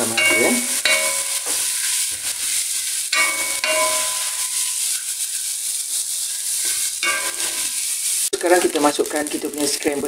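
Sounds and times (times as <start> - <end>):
spatula squeaking on pan: 0.0 - 8.3
rice sizzling in a wok: 0.0 - 10.0.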